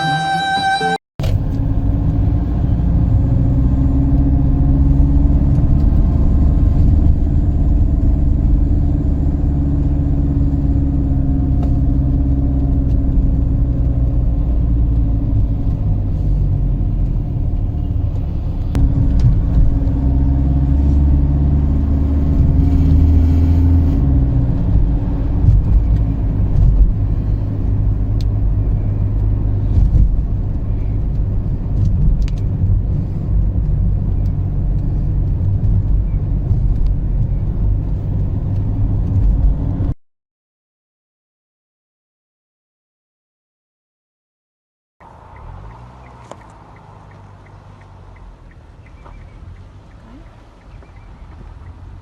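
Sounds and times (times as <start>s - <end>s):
car engine: 0.0s - 40.0s, 45.0s - 52.0s
road rumble: 0.0s - 40.0s, 45.0s - 52.0s.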